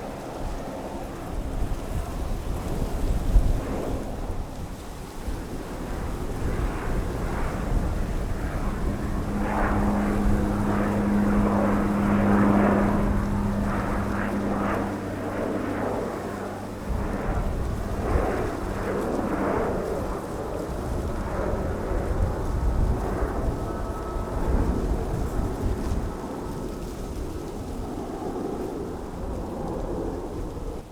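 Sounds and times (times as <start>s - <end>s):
jet engines rumbling: 4.0s - 30.9s.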